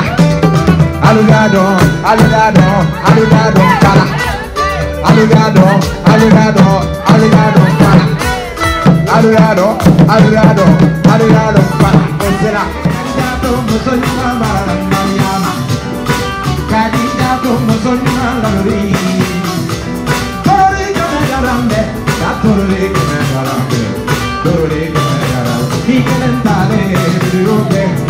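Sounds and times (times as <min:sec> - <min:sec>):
person singing: 0:00.0 - 0:28.0
steady drum beat: 0:00.0 - 0:28.0.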